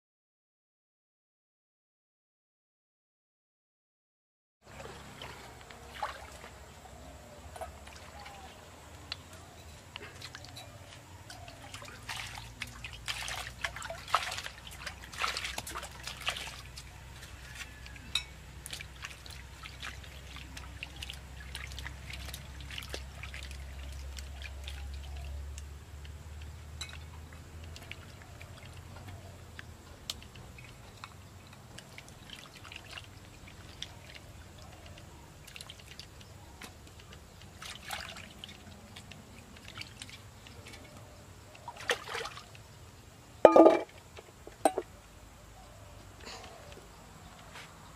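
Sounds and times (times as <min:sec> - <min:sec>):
water splashing and trickling: 0:04.6 - 0:45.0.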